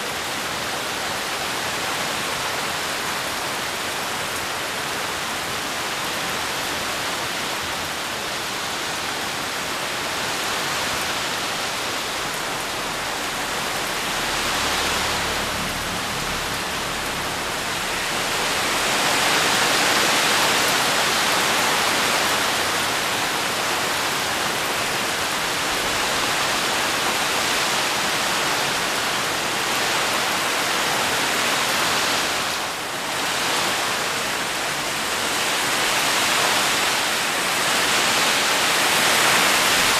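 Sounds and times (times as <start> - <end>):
rain pouring on leaves: 0.0 - 39.9.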